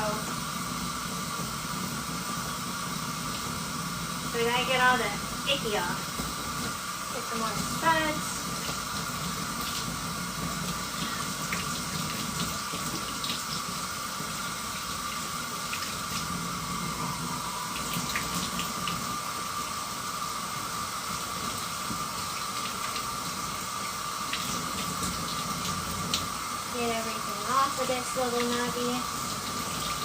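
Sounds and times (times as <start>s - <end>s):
tap water running into sink: 0.0s - 30.0s.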